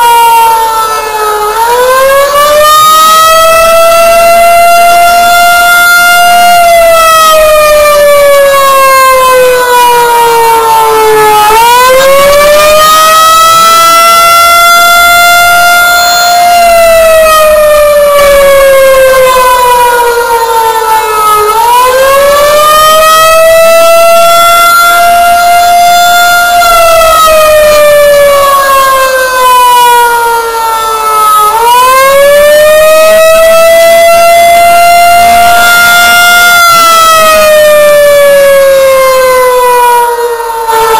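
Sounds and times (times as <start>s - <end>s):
warning siren falling and rising: 0.0s - 40.9s.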